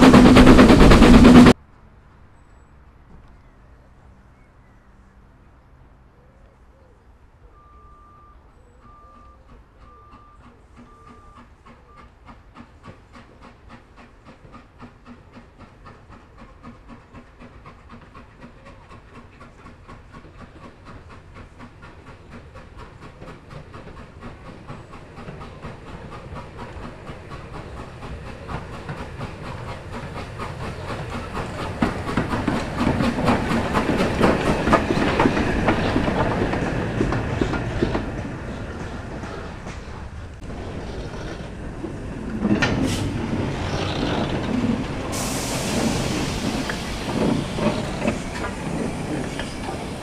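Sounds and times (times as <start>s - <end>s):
steam locomotive exhaust beats: 0.0s - 1.6s, 7.5s - 50.0s
wheels clattering on rail joints: 9.2s - 50.0s.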